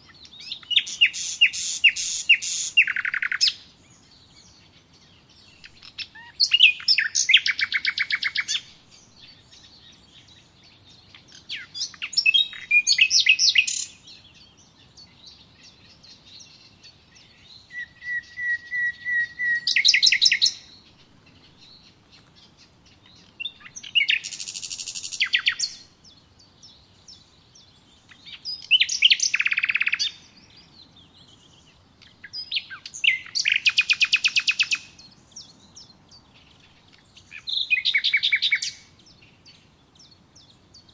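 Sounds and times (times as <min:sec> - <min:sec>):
songbird trilling: 0:00.0 - 0:40.9.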